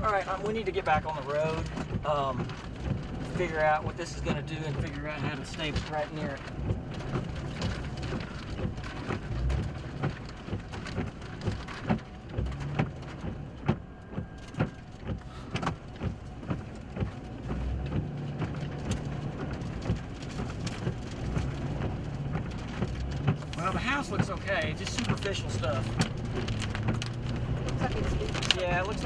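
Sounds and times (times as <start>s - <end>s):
heavy rain on vehicle roof: 0.0s - 29.0s
low rumble: 0.0s - 29.0s.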